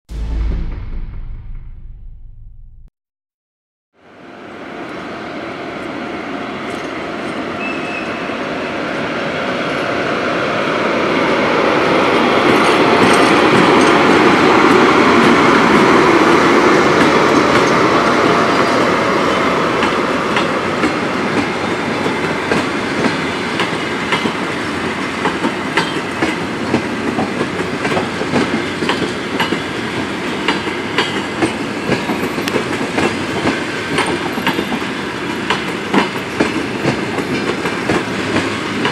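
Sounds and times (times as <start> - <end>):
passenger train rumbling past: 0.1 - 2.9, 4.0 - 38.9.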